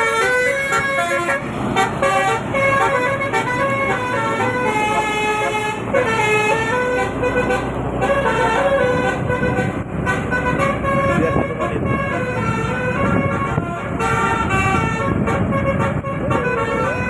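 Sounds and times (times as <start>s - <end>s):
truck air horn playing melody: 0.0s - 17.0s.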